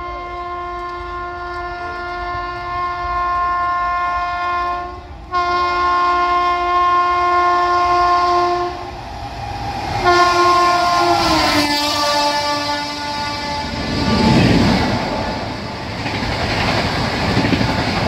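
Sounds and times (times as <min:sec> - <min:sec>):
electric locomotive horn: 0:00.0 - 0:09.0, 0:09.7 - 0:15.8
train rumble: 0:00.0 - 0:18.0.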